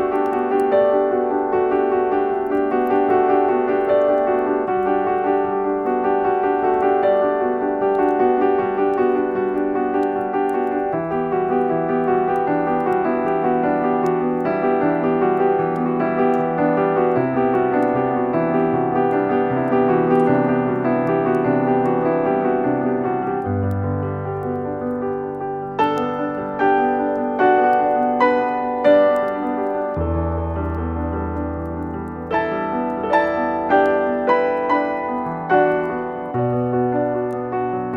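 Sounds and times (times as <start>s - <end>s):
gentle romantic piano music: 0.0s - 37.9s.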